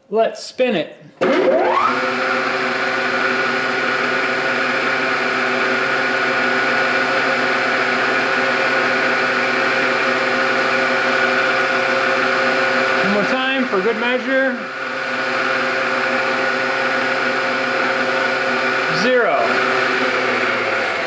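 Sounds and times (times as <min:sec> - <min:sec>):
milling machine spindle whining: 0:01.3 - 0:21.0.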